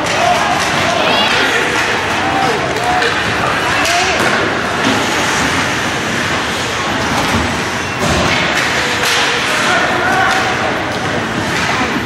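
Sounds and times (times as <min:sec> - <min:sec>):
hockey sticks and puck thuds: 0:00.0 - 0:12.0
steady rink noise: 0:00.0 - 0:12.0.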